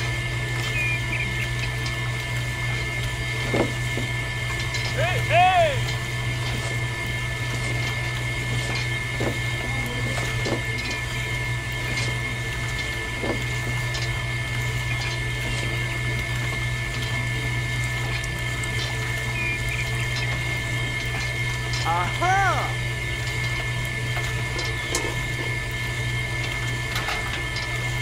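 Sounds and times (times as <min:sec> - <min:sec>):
juice press humming: 0:00.0 - 0:28.0
juice trickling: 0:00.0 - 0:28.0.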